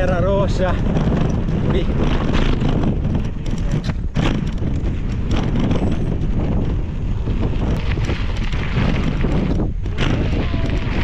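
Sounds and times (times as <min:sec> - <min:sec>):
bike rattling knocks: 0:00.0 - 0:11.0
tyres running over dirt: 0:00.0 - 0:11.0
wind buffeting microphone: 0:00.0 - 0:11.0.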